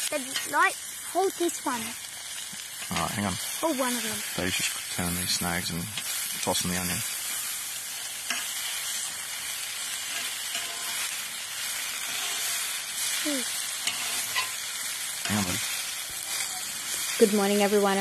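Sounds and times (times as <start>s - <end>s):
faint crackles: 0.0s - 18.0s
sausages sizzling on a hotplate: 0.0s - 18.0s.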